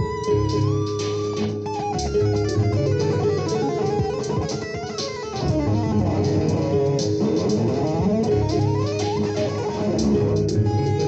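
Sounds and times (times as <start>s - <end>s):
electric guitar tapping: 0.0s - 11.0s.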